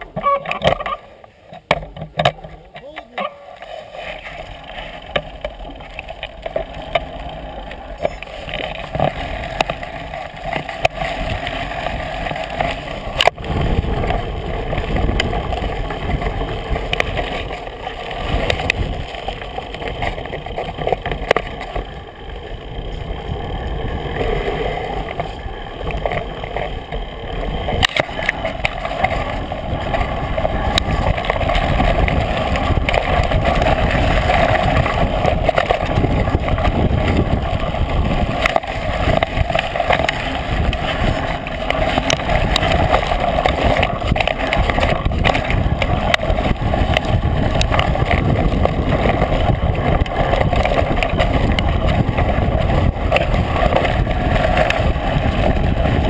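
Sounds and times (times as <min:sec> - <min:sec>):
bike knocking on bumps: 0:00.0 - 0:56.0
bike tyres and frame rattling: 0:00.0 - 0:56.0.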